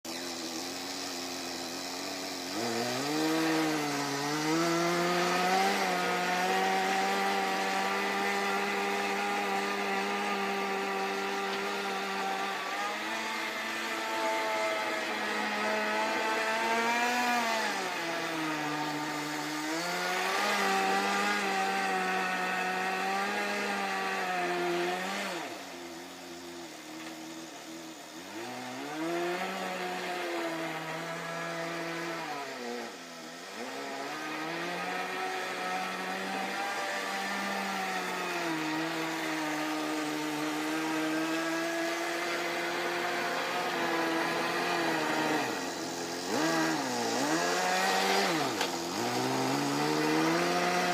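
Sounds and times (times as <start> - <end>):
small engine buzzing and revving: 0.0 - 50.9.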